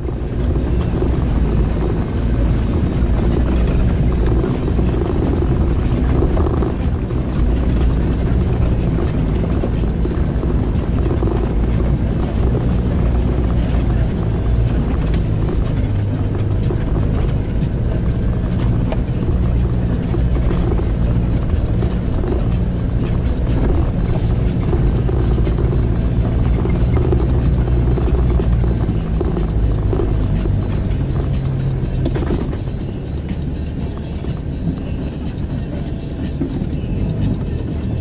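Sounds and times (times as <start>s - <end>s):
engine and tyre rumble: 0.0s - 38.0s.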